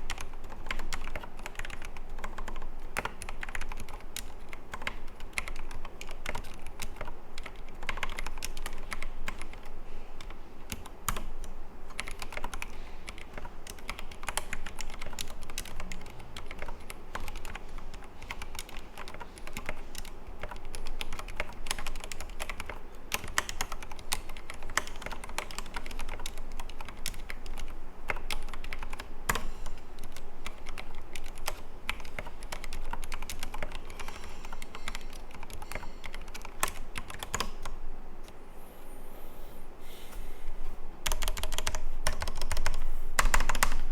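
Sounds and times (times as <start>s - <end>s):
typing on mechanical keyboard: 0.0s - 37.7s, 41.0s - 43.8s.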